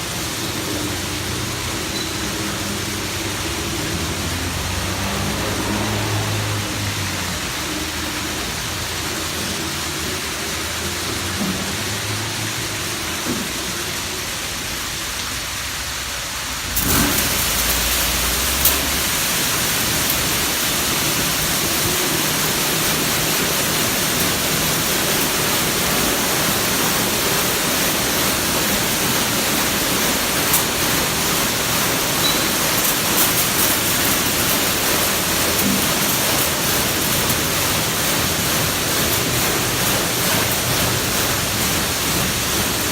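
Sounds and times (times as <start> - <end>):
water spray hissing on car: 0.0 - 42.9.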